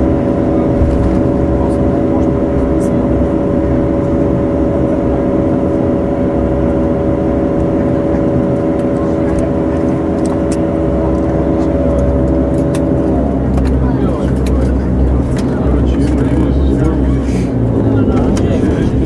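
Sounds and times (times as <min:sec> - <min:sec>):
turboprop engine drone: 0:00.0 - 0:19.0.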